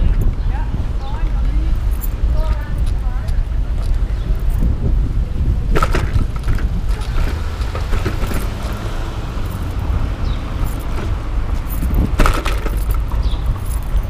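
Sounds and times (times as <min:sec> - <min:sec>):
road noise: 0:00.0 - 0:14.0
wind rumble on microphone: 0:00.0 - 0:14.0.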